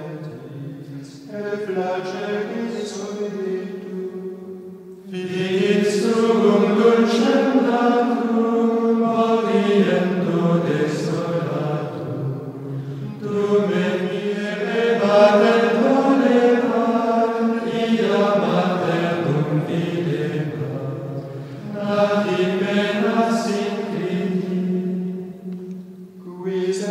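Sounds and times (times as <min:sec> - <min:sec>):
voices chanting long held notes: 0:00.0 - 0:26.9.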